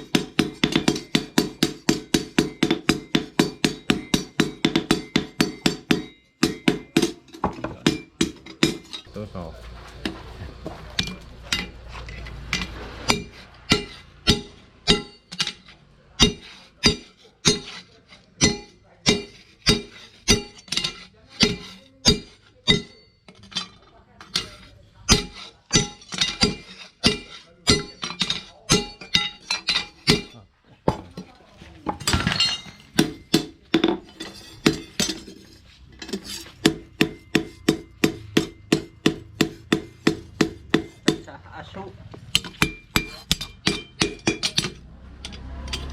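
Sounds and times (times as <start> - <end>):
hammer striking steel on anvil: 0.0 - 9.2, 11.0 - 30.4, 32.0 - 41.4, 42.2 - 45.9.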